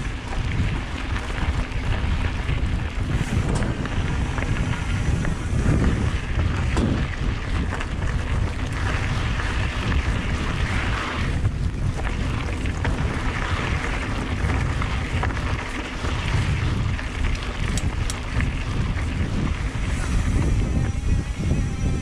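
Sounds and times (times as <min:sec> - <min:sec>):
tyres crunching over rocky trail: 0:00.0 - 0:21.6
bike clicks and rattles: 0:00.0 - 0:22.0
wind rumbling on microphone: 0:00.0 - 0:22.0.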